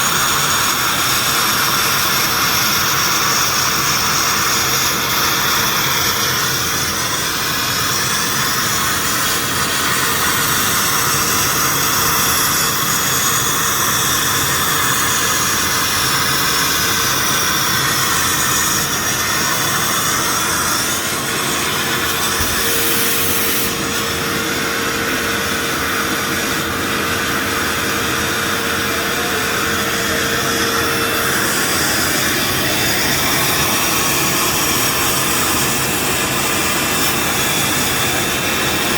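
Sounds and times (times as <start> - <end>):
sandblasting machine hissing: 0.1 - 38.9.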